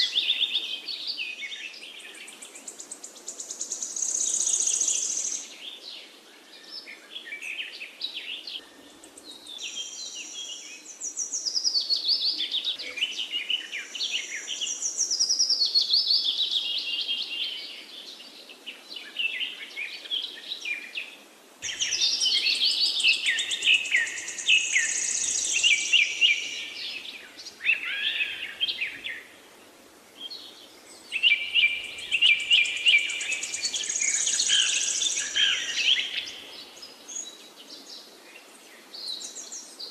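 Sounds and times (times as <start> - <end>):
birds singing and chirping: 0.0 - 29.4, 30.2 - 39.9.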